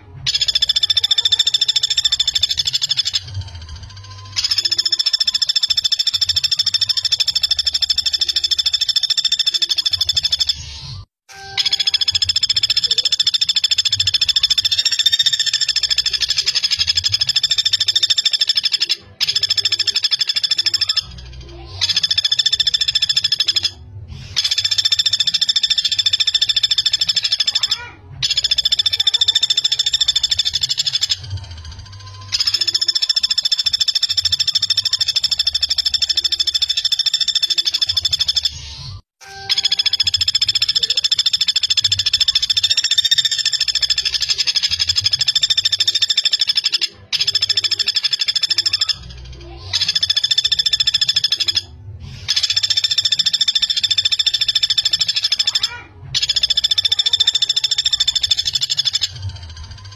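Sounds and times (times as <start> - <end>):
woodpecker rattling call: 0.0 - 10.8, 11.4 - 59.9.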